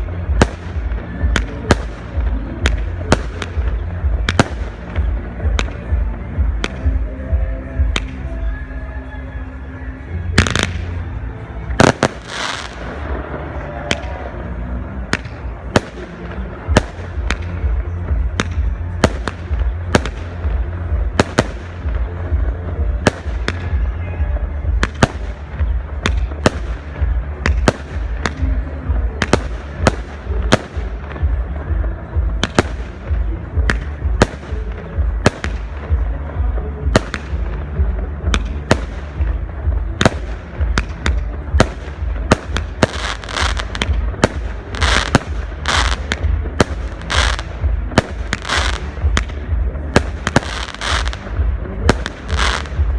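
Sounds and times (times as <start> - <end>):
low rumble: 9.4 - 52.9.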